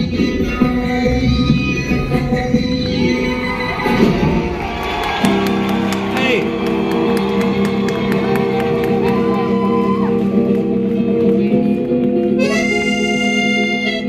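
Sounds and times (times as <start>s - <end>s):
crowd cheering and shouting: 0.0s - 13.2s.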